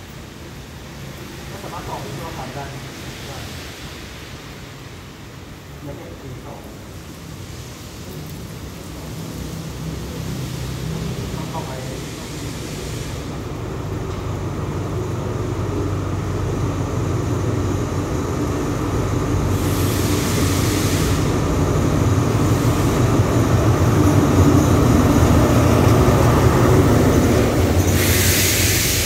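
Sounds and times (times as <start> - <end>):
train hiss: 0.0 - 14.2, 14.8 - 29.0
train rumble: 0.0 - 29.0.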